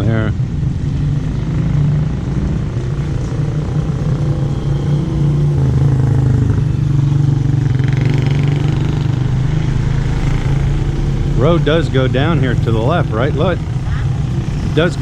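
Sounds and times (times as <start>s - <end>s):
small engine humming: 1.0s - 15.0s.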